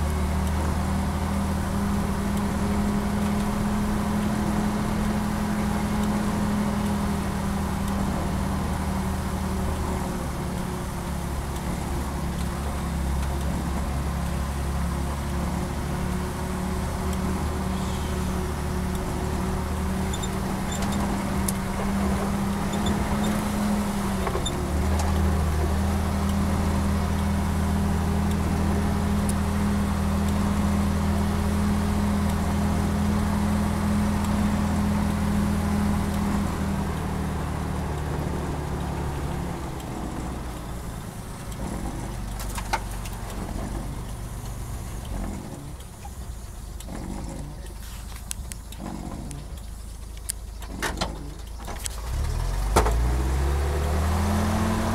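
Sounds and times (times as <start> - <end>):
truck engine running: 0.0 - 54.9.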